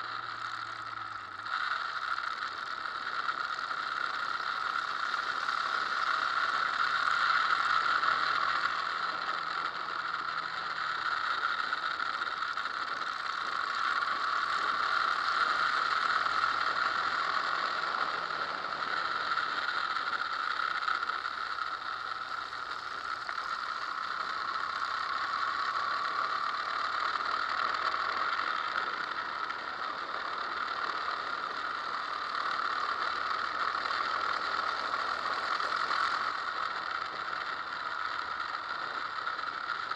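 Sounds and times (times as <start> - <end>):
faint motorcycle engine hum: 0.0 - 39.9
wind and road noise: 0.0 - 39.9.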